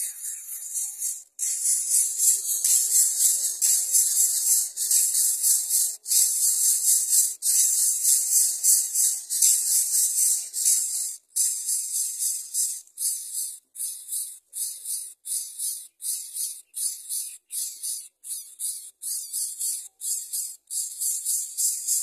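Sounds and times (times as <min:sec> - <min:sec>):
chicks hissing raspily: 0:00.0 - 0:22.0.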